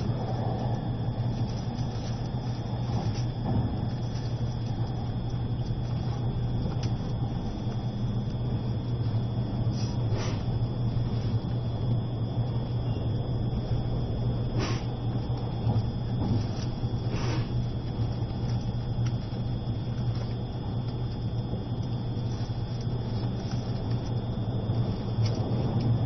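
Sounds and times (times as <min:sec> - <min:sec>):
train running low hum: 0:00.0 - 0:26.0.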